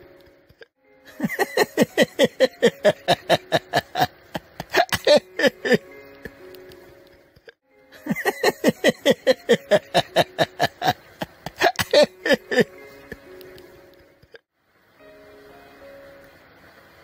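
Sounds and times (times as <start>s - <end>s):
faint steady music chord: 0.0s - 17.0s.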